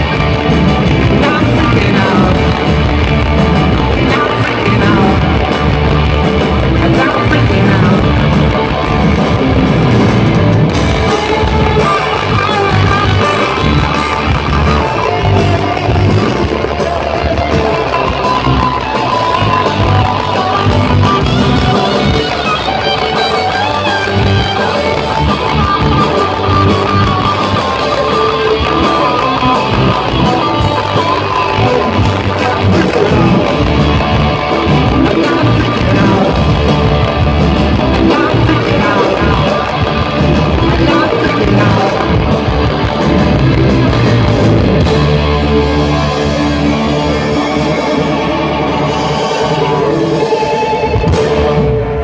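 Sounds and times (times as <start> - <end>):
electric guitar lead line: 0.0 - 52.0
live rock band playing: 0.0 - 52.0.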